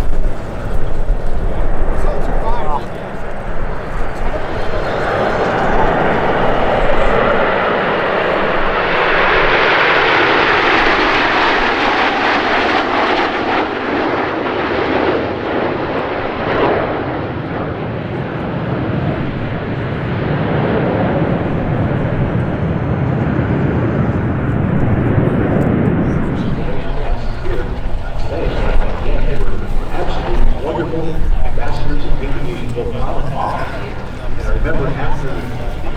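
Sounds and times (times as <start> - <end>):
airplane engine passing by: 0.0 - 35.9.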